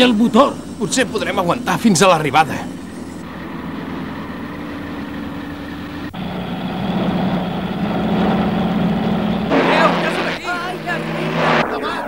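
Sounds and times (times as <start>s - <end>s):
cartoon racing car engines humming: 0.0s - 12.0s
low engine drone: 0.0s - 12.0s.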